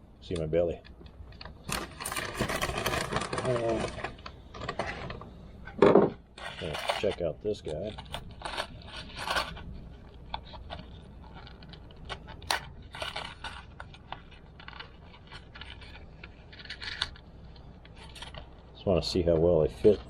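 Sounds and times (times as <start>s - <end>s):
small hard parts clicking and clattering: 0.3s - 18.6s.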